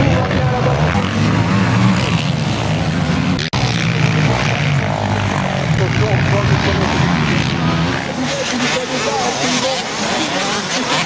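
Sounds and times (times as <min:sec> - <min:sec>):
quad engines revving: 0:00.0 - 0:11.0.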